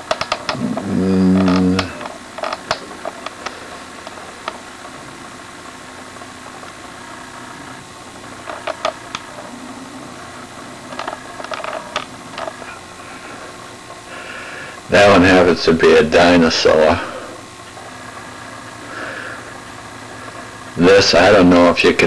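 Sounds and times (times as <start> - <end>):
low hum: 0.0 - 21.0
steady background hiss: 0.0 - 22.0.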